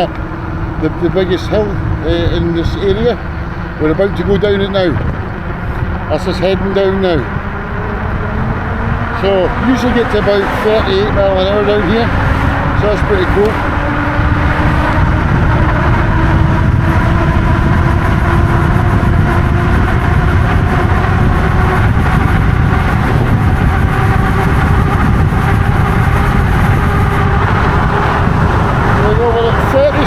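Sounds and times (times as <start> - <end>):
steady hum: 0.0 - 30.0
tyre noise: 0.0 - 30.0
wind rushing over microphone: 0.0 - 30.0.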